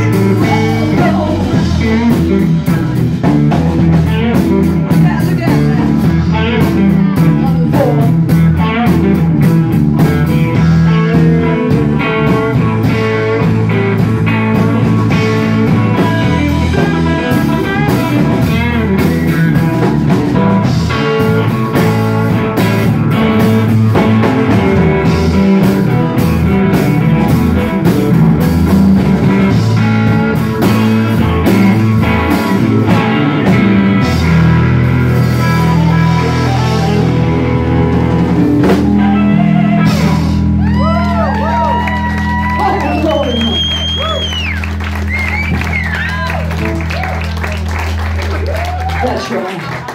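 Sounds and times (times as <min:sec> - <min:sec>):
drum kit: 0:00.0 - 0:49.1
bass guitar: 0:00.0 - 0:49.9
electric guitars: 0:00.0 - 0:49.9.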